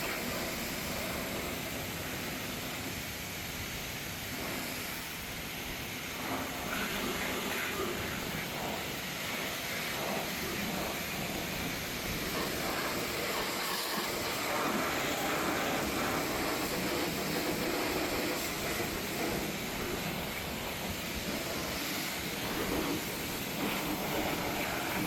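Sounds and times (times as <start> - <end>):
car wash equipment hissing: 0.0 - 25.0.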